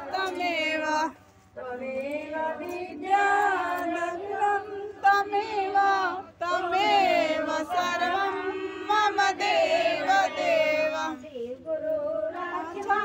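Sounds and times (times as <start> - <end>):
women and children singing: 0.0 - 13.0.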